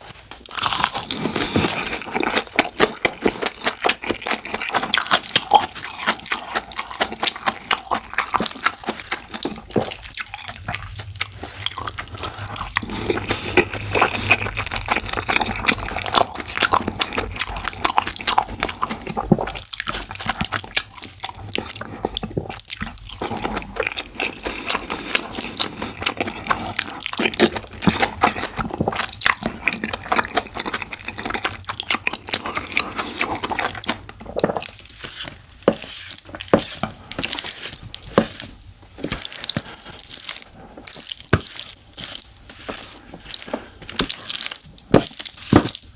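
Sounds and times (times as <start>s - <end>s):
wet chewing and smacking: 0.0s - 45.9s.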